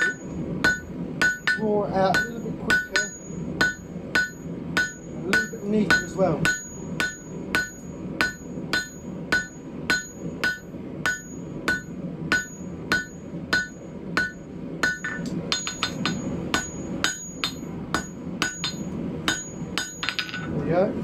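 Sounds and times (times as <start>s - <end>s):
hammer striking steel on anvil: 0.0s - 20.5s.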